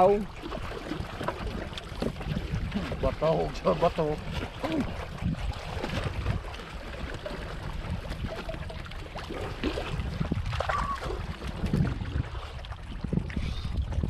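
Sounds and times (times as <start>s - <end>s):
water splashing against boat: 0.0s - 14.0s.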